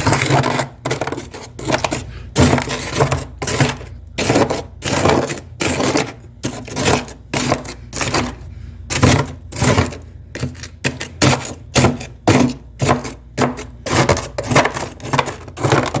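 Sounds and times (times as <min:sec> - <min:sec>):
freezer frost crunching: 0:00.0 - 0:16.0.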